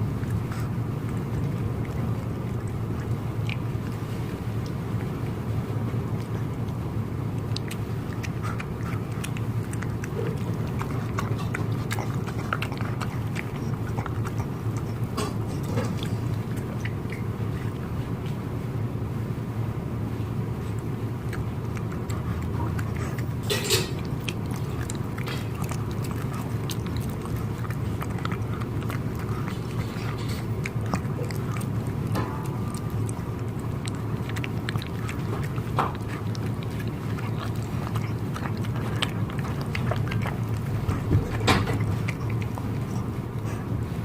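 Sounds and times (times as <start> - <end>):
dogs chewing: 0.0 - 44.0.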